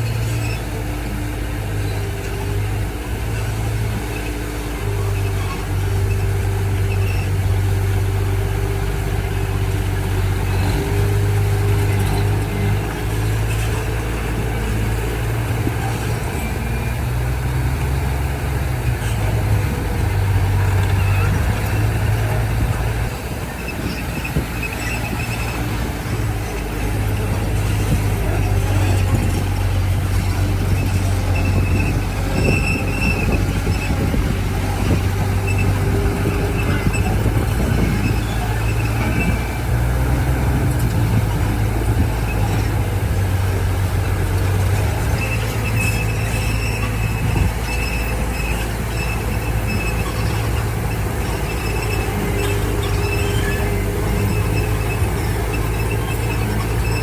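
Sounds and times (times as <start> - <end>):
bulldozer diesel engine running: 0.0 - 57.0
high metallic squeals: 0.0 - 57.0.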